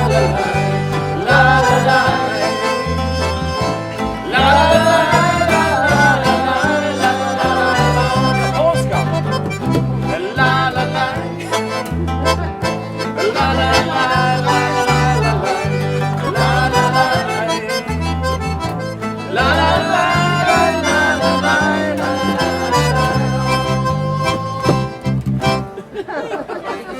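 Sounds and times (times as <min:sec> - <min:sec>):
guitars with stepping bass line: 0:00.0 - 0:25.9
reedy lead melody: 0:00.0 - 0:26.0.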